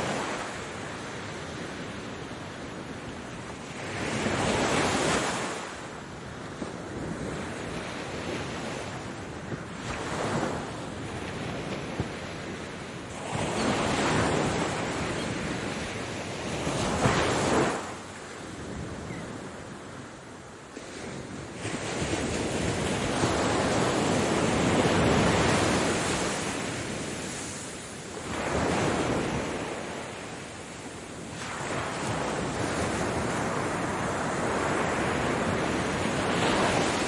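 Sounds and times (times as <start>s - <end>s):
ocean waves breaking: 0.0s - 37.0s.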